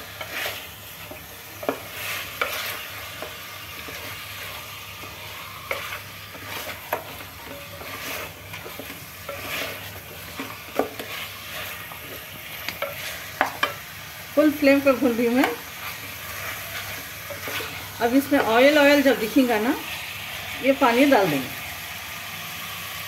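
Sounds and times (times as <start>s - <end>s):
wooden spatula scraping pot: 0.0s - 20.0s
chicken sizzling in oil: 0.0s - 23.0s.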